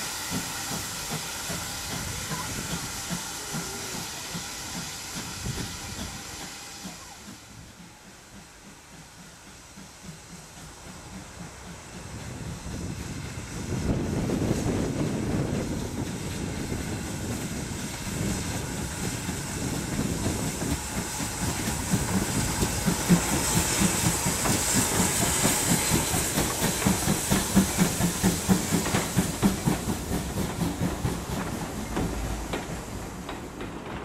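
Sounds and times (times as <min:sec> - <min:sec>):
steam hissing: 0:00.0 - 0:34.0
steam locomotive chuffing: 0:00.0 - 0:34.0
train wheels clicking over rail joints: 0:00.0 - 0:34.0.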